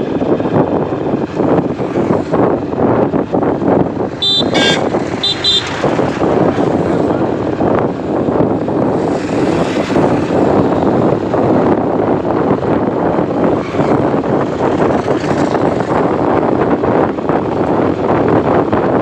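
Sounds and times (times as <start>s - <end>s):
train rumble and rattle: 0.0s - 19.0s.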